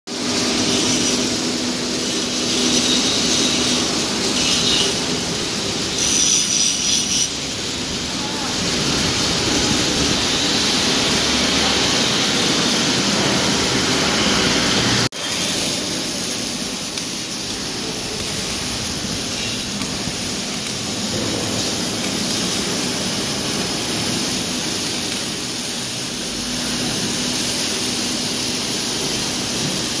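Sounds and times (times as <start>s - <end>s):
workshop machinery running: 0.1s - 30.0s.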